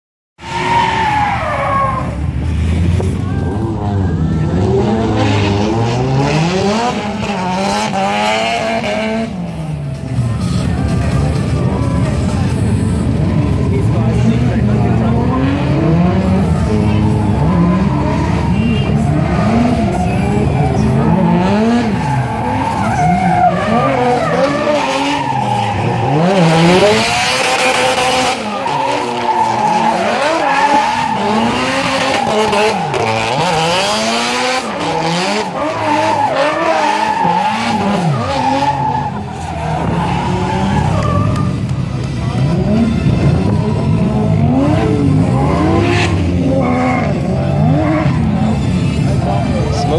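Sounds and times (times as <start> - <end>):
car engine revving: 0.4 - 49.9
tyres skidding and squealing: 0.4 - 49.9.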